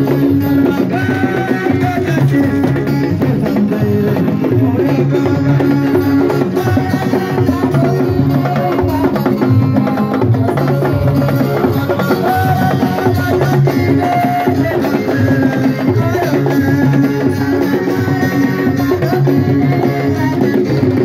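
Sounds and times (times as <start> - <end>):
drum and hand percussion rhythm: 0.0 - 21.0.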